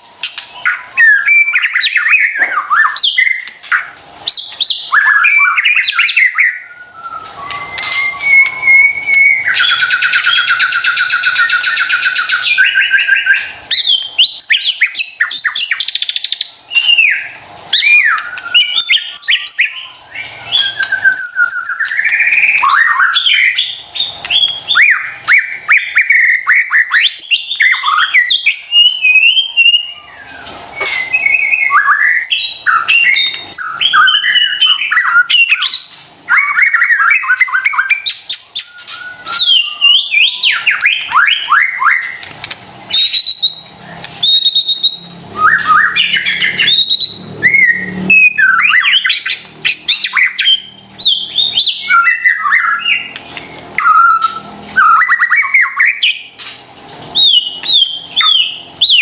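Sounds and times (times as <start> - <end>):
songbird singing whistles and clicks: 0.2 - 56.6, 57.2 - 59.0.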